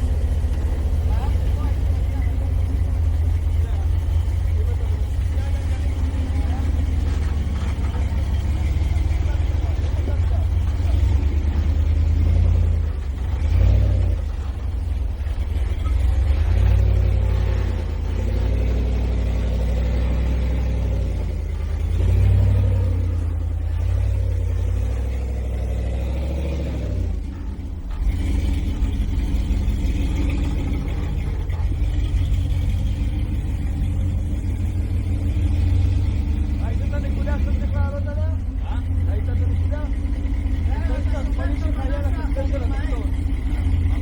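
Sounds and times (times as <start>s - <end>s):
vehicle engine revving: 0.0s - 44.0s.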